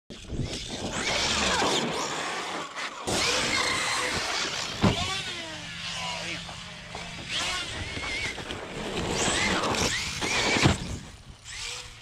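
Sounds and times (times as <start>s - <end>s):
electric motor whining: 0.2s - 12.0s.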